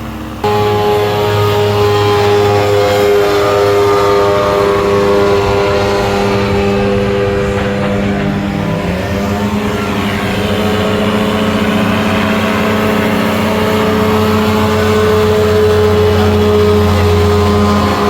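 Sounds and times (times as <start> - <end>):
propeller aircraft engine running: 0.0 - 18.0.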